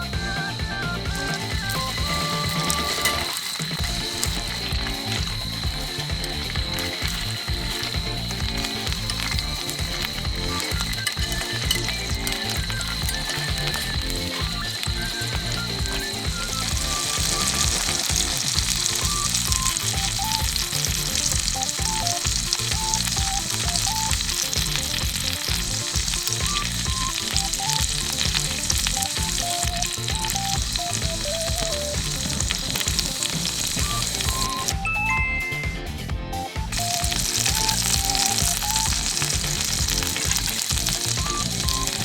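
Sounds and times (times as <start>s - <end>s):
food sizzling in a hot pan: 0.0s - 34.8s, 36.7s - 42.0s.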